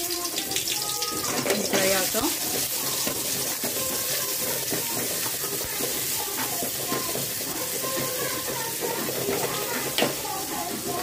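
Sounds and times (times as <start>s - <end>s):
paste sizzling in hot oil: 0.0s - 11.0s
spoon scraping a pan: 0.9s - 11.0s.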